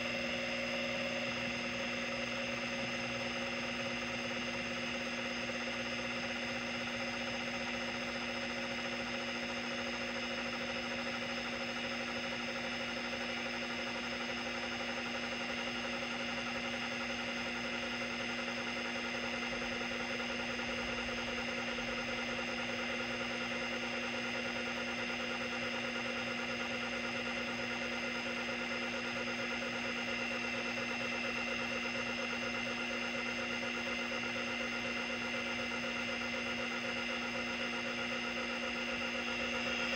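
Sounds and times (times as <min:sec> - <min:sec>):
hard drive spindle whine: 0:00.0 - 0:39.9.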